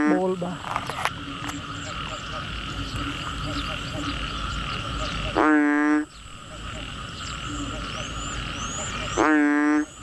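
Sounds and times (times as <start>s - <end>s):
frogs and insects chorus: 0.0s - 10.0s
loud frog call: 0.0s - 10.0s
low frog croaks: 0.0s - 10.0s.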